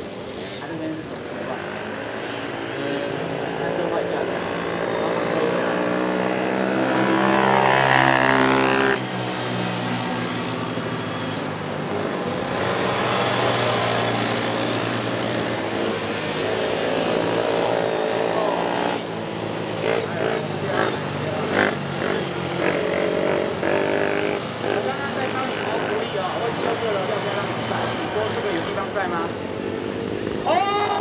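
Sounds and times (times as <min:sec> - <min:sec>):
racing atv engines revving: 0:00.0 - 0:31.0.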